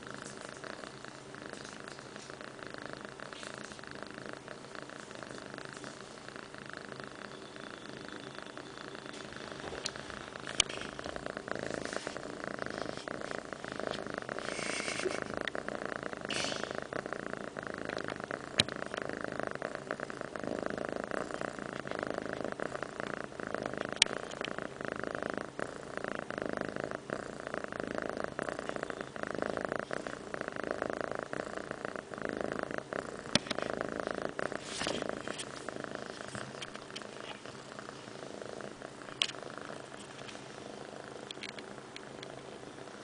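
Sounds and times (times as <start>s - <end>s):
cat purring: 0.0s - 43.0s.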